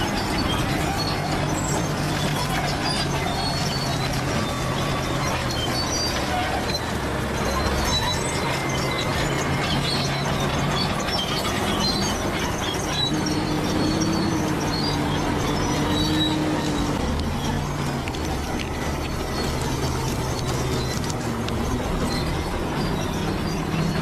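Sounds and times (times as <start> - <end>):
diesel engine running: 0.0 - 24.0
steel tracks squealing and clanking: 0.0 - 24.0.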